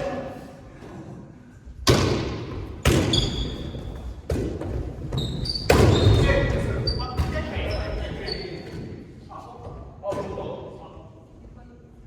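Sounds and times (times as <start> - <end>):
heavy thuds echoing in a hall: 0.0 - 11.2.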